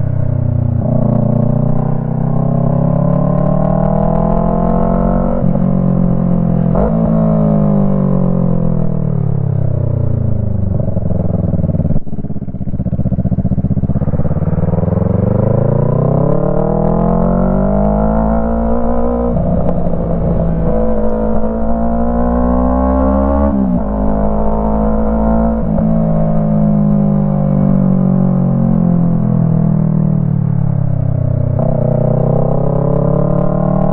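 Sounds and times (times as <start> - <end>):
motorcycle engine: 0.0 - 33.9.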